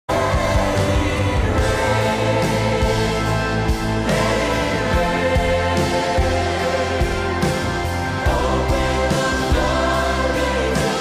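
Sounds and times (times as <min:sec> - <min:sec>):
electric guitars playing: 0:00.1 - 0:11.0
people singing: 0:00.1 - 0:11.0
piano: 0:00.1 - 0:11.0.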